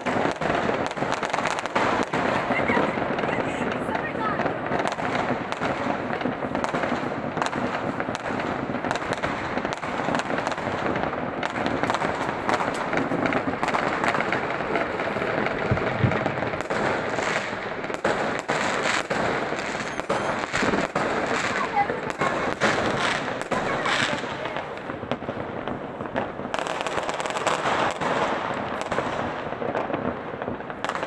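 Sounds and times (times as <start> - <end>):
fireworks and firecrackers popping: 0.0 - 31.0.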